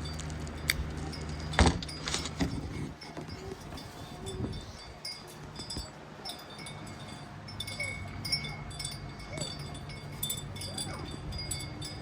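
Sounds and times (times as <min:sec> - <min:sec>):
steady low hum: 0:00.0 - 0:12.0
wind chimes ringing: 0:00.0 - 0:12.0.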